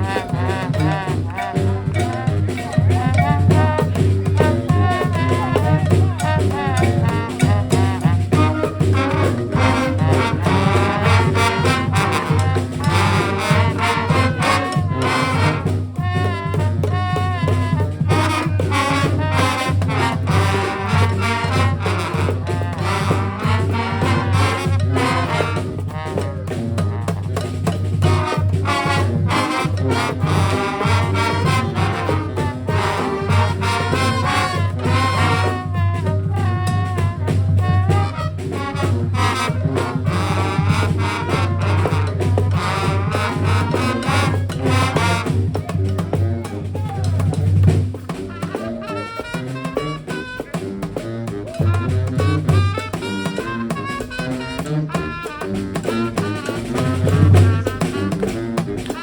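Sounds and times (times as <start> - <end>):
drums: 0.0 - 59.0
trumpets and trombones: 0.0 - 59.0.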